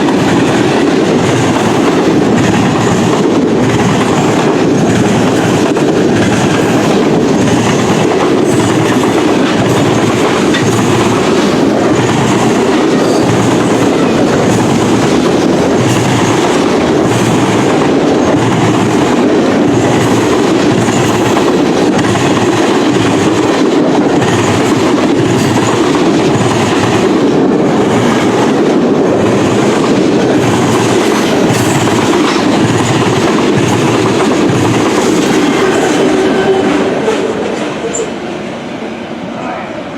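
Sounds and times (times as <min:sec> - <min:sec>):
wheels clacking over rail joints: 0:00.0 - 0:38.1
freight train wheels rumbling: 0:00.0 - 0:39.9.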